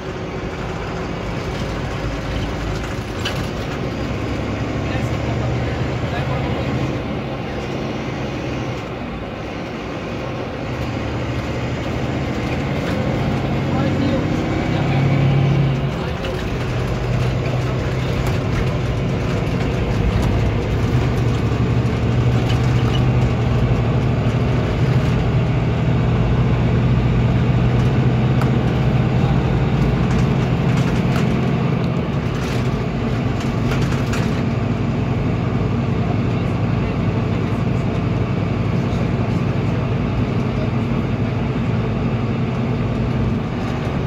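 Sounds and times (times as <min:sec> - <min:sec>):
diesel engine hum: 0:00.0 - 0:44.0
tyre and road noise: 0:00.0 - 0:44.0.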